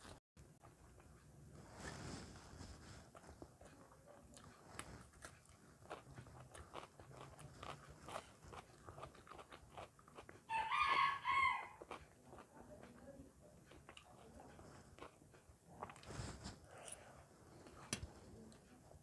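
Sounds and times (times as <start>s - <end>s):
soft chewing and mouth clicks: 0.0s - 19.0s.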